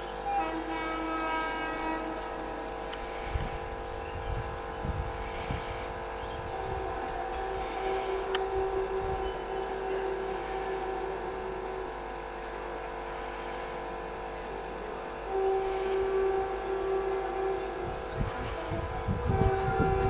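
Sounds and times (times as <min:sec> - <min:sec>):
electric locomotive humming: 0:00.0 - 0:20.0.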